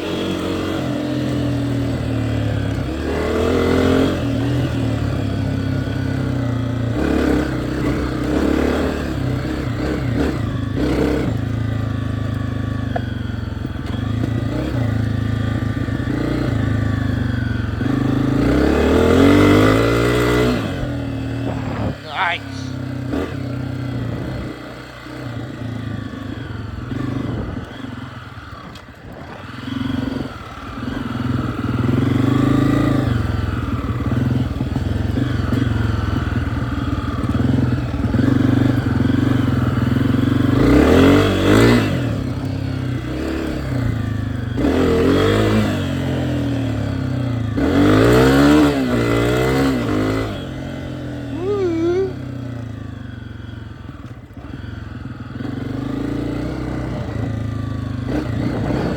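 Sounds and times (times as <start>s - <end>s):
dirt bike engine revving: 0.0s - 52.6s, 53.8s - 58.9s.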